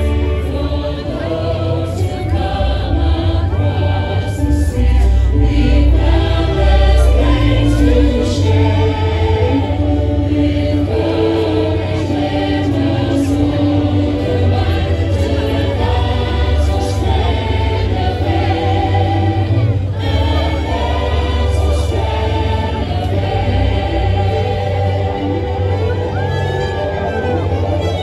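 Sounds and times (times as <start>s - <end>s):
choir singing held notes: 0.0s - 28.0s.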